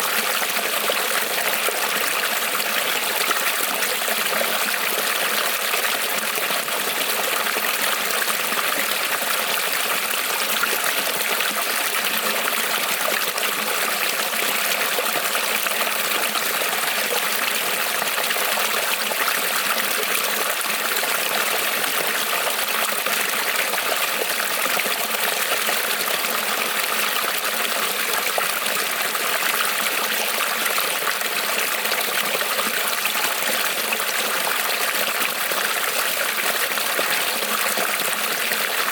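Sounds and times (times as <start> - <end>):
creek water trickling over stones: 0.0 - 38.9.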